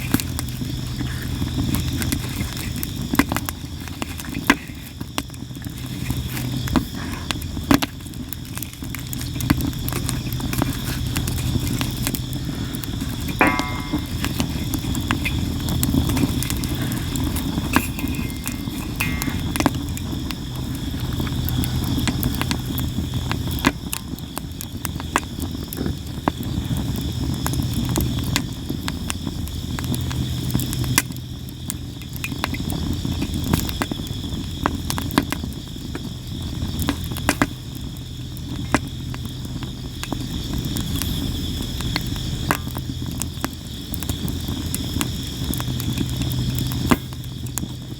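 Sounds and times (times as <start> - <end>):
firewood crackling and popping: 0.0 - 47.9
insect chirping: 0.0 - 47.9.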